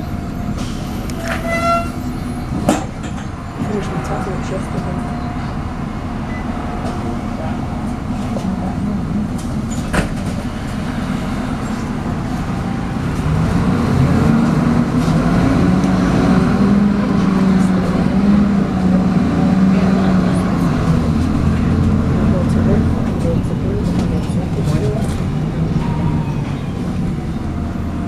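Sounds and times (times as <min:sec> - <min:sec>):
bus engine whining: 0:00.0 - 0:28.0.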